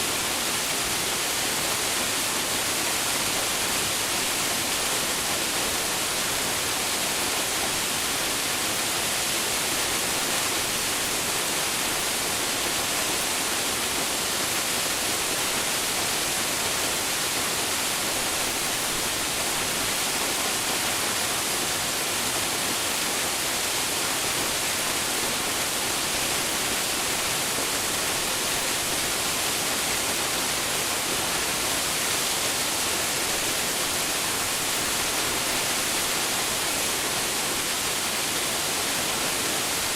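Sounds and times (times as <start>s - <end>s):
waterfall pouring: 0.2s - 39.9s.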